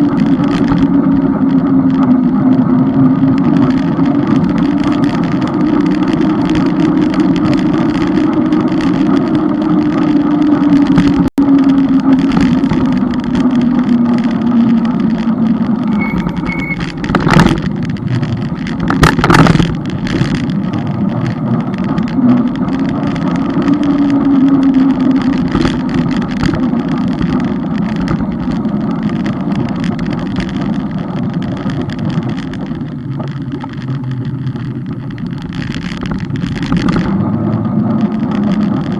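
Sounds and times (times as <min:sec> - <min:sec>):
moving vehicle road noise: 0:00.0 - 0:38.9.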